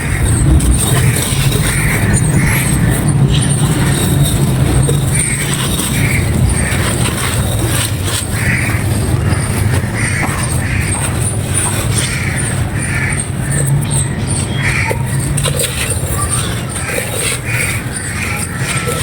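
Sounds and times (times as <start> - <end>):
steady low rumble: 0.0 - 18.8.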